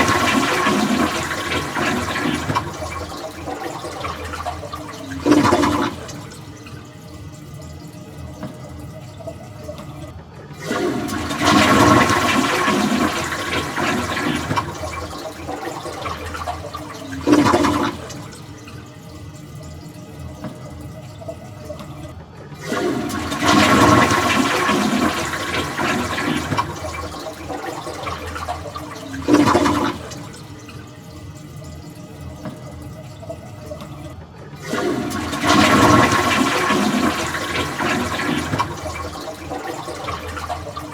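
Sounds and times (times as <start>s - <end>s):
toilet flushing: 0.0s - 40.9s.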